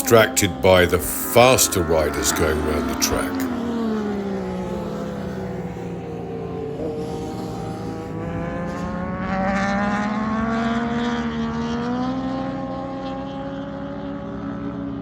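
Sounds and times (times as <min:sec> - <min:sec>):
racing motorcycle engine accelerating: 0:00.0 - 0:15.0.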